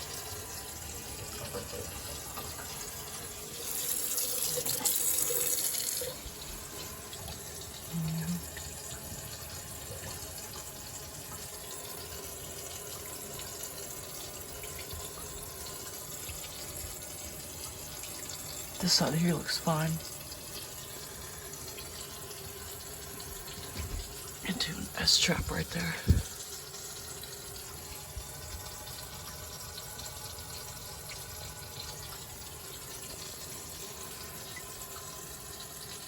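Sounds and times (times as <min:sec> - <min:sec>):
tap water running into a sink: 0:00.0 - 0:36.0.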